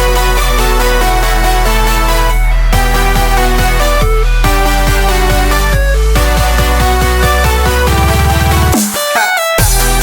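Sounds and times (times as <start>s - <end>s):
deep bass: 0.0s - 8.8s, 9.6s - 10.0s
held synth notes: 0.0s - 10.0s
falling pitch drop: 0.3s - 8.7s.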